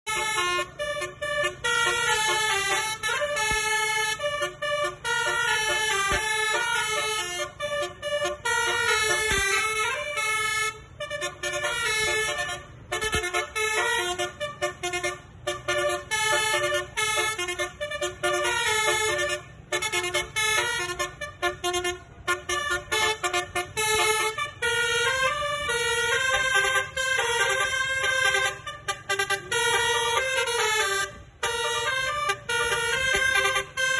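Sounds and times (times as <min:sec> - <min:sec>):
multi-tone musical bus horn: 0:00.0 - 0:33.9.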